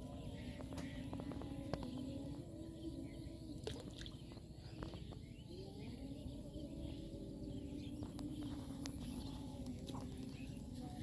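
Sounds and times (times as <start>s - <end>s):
low wavering hum: 0.0s - 11.0s.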